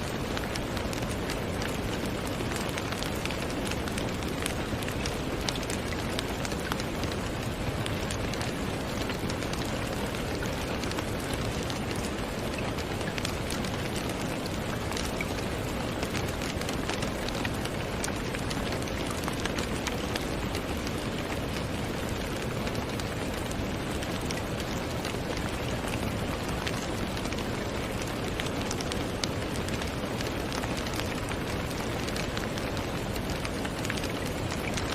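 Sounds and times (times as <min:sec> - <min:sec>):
raindrops ticking: 0:00.0 - 0:34.9
steady rain hiss: 0:00.0 - 0:34.9.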